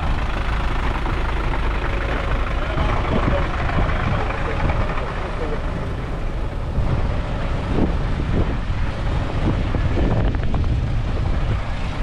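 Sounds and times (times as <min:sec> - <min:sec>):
road traffic engines rumbling: 0:00.0 - 0:12.0
wind buffeting microphone: 0:00.0 - 0:12.0.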